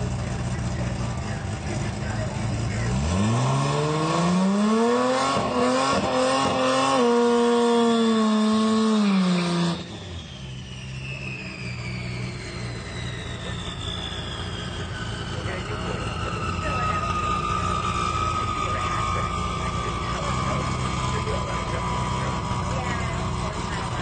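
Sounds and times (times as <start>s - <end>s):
car engine revving: 0.0s - 24.0s
thin whine falling in pitch: 3.6s - 24.0s.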